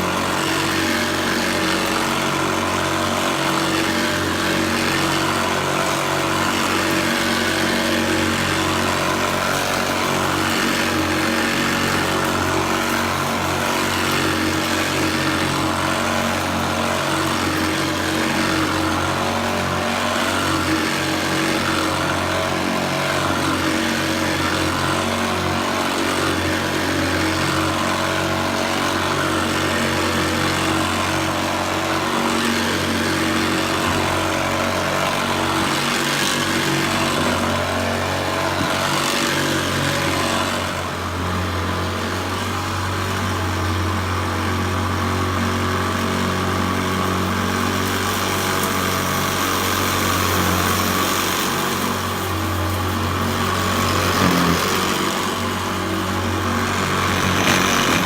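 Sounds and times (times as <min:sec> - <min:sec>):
beater bar agitator whirring: 0:00.0 - 0:58.0
vacuum cleaner motor hum: 0:00.0 - 0:58.0.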